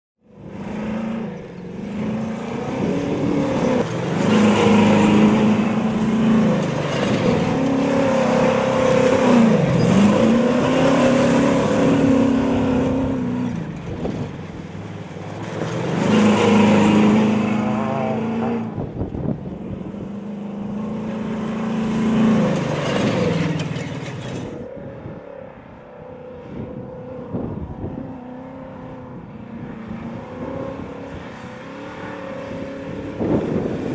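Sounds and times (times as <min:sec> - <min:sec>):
truck engines at full throttle: 0:00.2 - 0:33.9.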